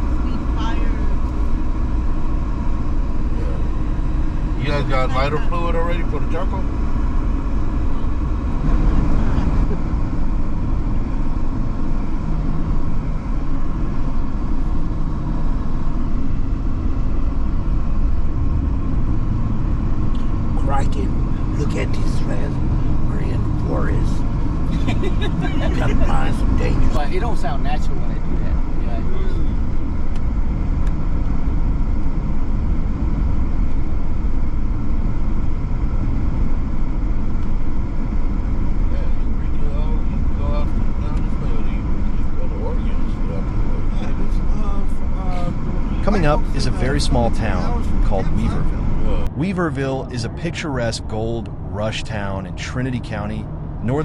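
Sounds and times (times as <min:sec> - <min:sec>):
car driving on highway: 0:00.0 - 0:54.0
vehicle road and engine rumble: 0:00.0 - 0:54.0.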